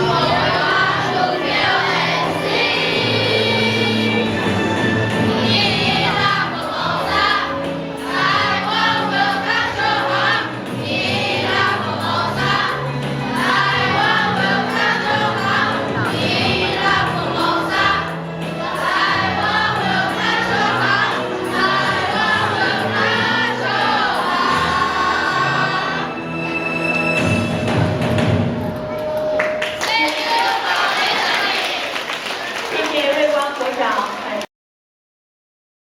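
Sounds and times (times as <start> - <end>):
children's choir singing: 0.0 - 32.7.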